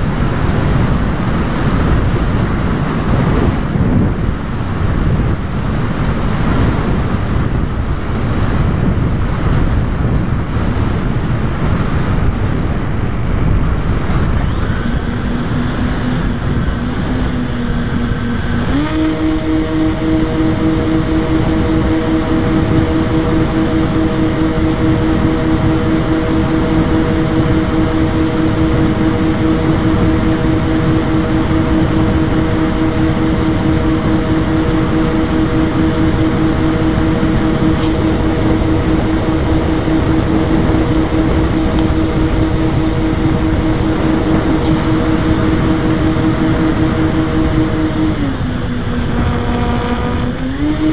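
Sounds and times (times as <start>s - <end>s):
motor and propeller whine: 0.0s - 50.9s
wind rushing over camera: 0.0s - 50.9s.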